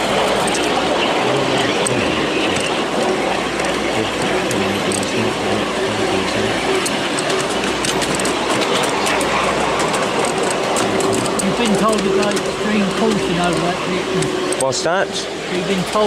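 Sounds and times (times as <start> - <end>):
faint steady hum: 0.0 - 16.0
train wheels rolling on rails: 0.0 - 16.0
light track clicks: 1.6 - 16.0.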